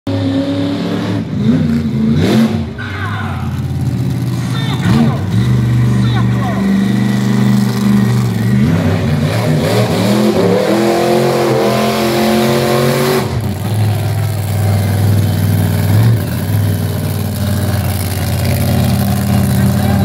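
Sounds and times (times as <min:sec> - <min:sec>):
truck engine revving: 0:00.1 - 0:20.0.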